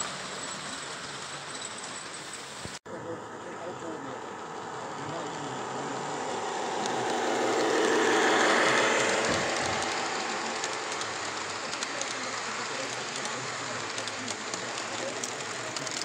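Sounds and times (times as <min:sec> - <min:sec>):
wagon wheels clicking on track: 0:00.0 - 0:02.8, 0:04.4 - 0:16.0
model locomotive passing: 0:00.0 - 0:16.0.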